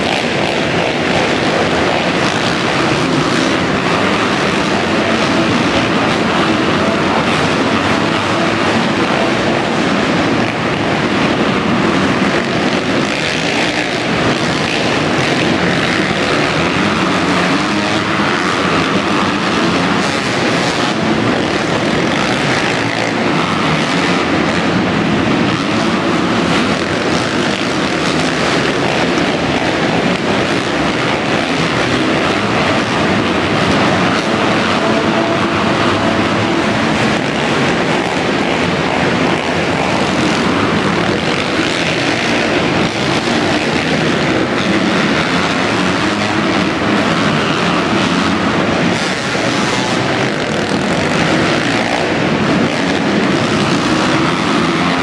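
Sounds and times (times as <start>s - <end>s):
dirt bike engines racing: 0.0s - 55.0s.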